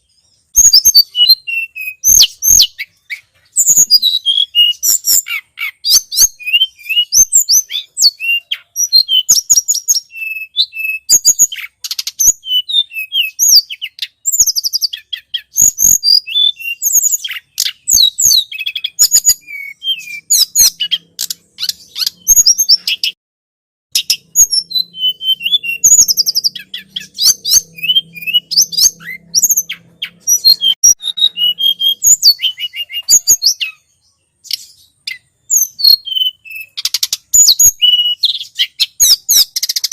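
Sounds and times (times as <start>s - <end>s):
bird chirping and twittering: 0.0s - 23.2s, 23.9s - 39.9s.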